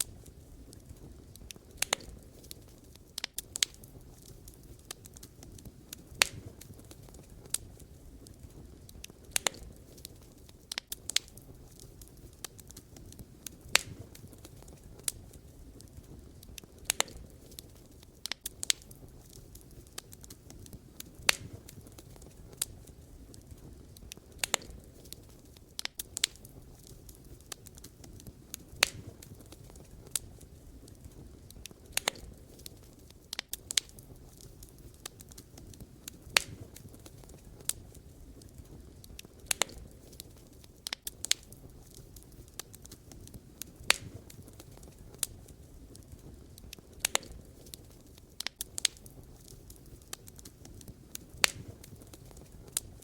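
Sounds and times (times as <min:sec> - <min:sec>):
logs crackling and popping: 0:00.0 - 0:53.0
low rumble of flames: 0:00.0 - 0:53.0.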